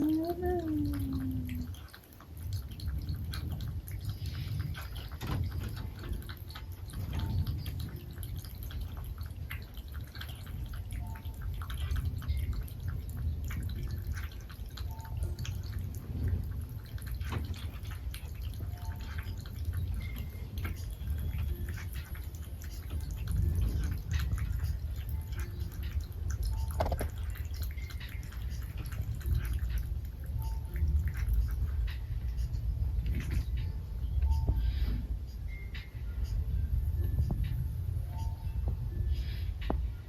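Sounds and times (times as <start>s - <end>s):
cat lapping water: 0.0s - 36.0s
low background rumble: 0.0s - 40.0s.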